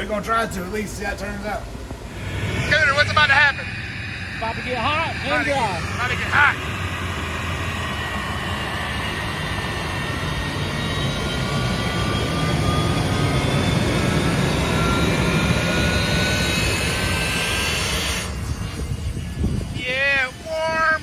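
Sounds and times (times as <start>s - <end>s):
jet-engine track dryer rumble: 0.0s - 21.0s
turbine whine rising in pitch: 0.0s - 21.0s.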